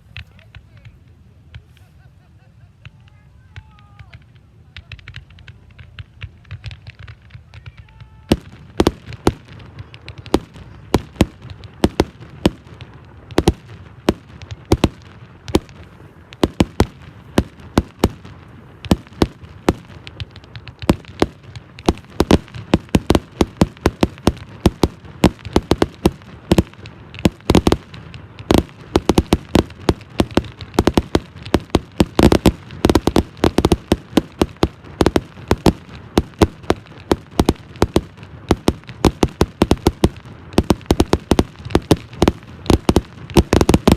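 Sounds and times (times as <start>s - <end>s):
fireworks bangs and pops: 0.0s - 43.9s.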